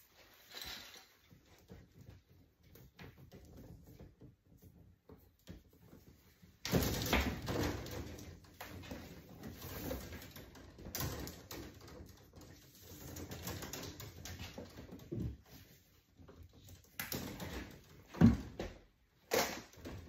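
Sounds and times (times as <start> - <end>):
electrical cables rustling and scraping: 0.0 - 18.3.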